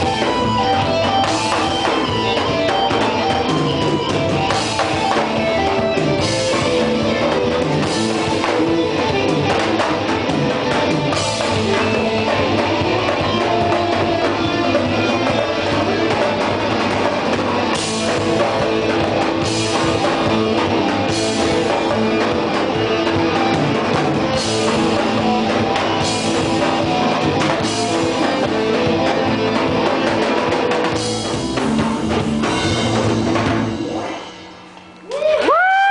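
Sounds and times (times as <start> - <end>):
drum kit beat: 0.0 - 35.8
distorted electric guitar: 0.0 - 35.9
rock band playing: 0.0 - 35.9.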